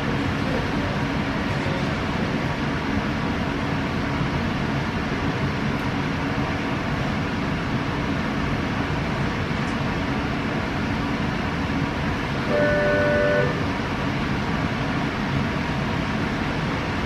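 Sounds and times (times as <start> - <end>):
train air conditioning hum and hiss: 0.0 - 17.0.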